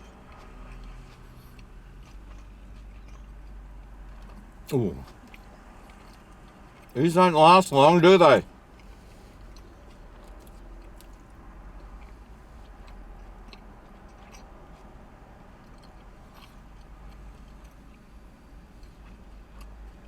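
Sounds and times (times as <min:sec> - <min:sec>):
man chewing close to microphone: 0:00.0 - 0:07.0, 0:08.4 - 0:20.0.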